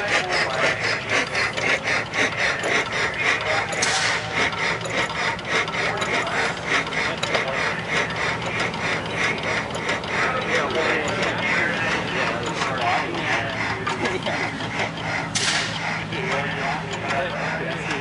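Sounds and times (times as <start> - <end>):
gas engine clacking: 0.0 - 18.0.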